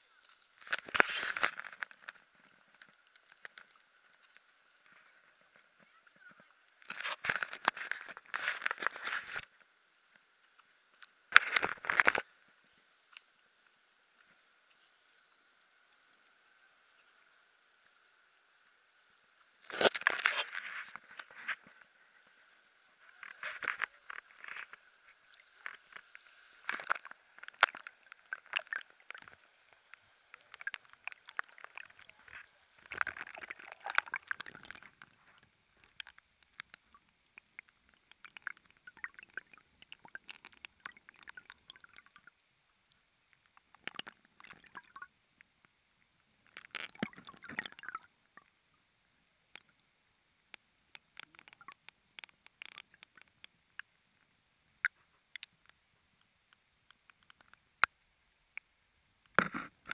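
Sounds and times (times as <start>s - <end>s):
muffled underwater river water: 0.0s - 59.9s.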